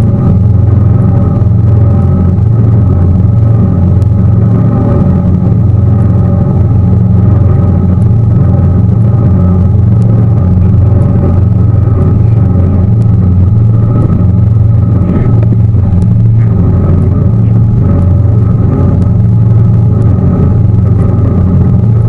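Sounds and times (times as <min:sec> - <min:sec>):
boat motor droning: 0:00.0 - 0:22.0
water noise: 0:00.0 - 0:22.0
wind noise: 0:00.0 - 0:22.0.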